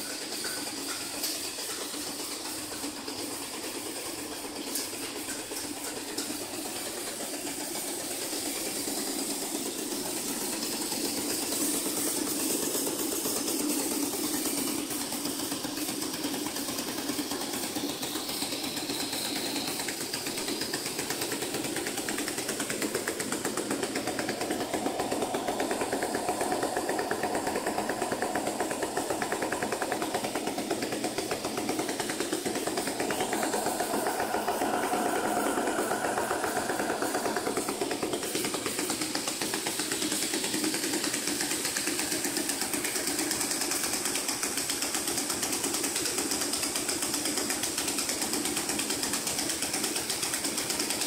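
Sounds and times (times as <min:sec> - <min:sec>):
pipe mill machine rattling: 0:00.0 - 0:51.0.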